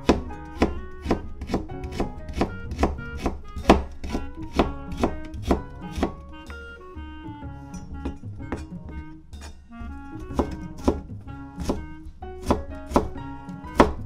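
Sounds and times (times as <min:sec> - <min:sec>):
knife slicing on cutting board: 0:00.0 - 0:06.6, 0:08.0 - 0:14.0
background music: 0:00.0 - 0:14.0.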